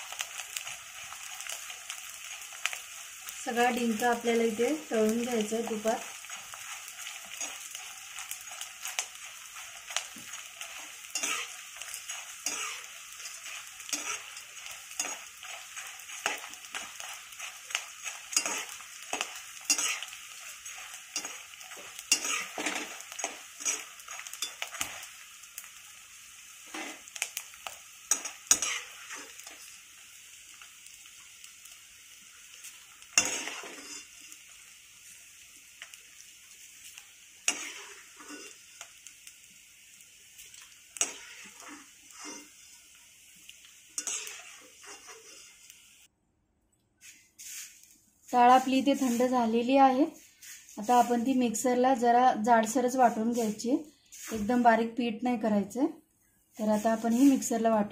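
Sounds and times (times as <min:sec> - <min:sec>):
spoon scraping pan: 0:00.0 - 0:25.7, 0:26.5 - 0:31.4, 0:32.5 - 0:35.2, 0:36.6 - 0:39.3, 0:40.4 - 0:45.9, 0:47.0 - 0:51.6, 0:53.2 - 0:54.6
frying sizzle: 0:00.0 - 0:46.1, 0:47.0 - 0:55.9, 0:56.5 - 0:57.9.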